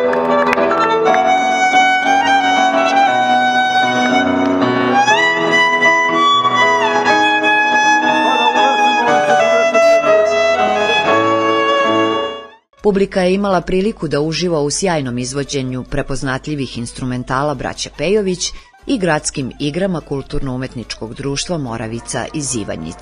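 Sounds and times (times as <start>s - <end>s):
violin-led instrumental music: 0.0s - 12.8s, 13.5s - 23.0s.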